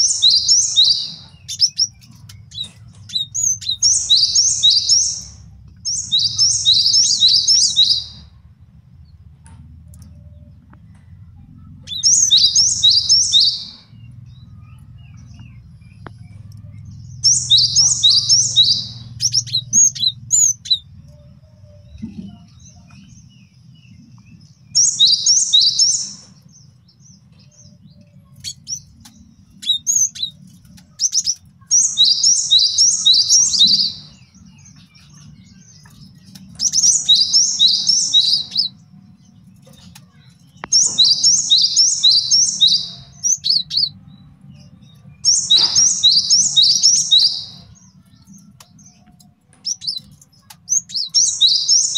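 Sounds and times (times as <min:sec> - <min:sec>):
faint low hum: 0:00.0 - 0:51.6.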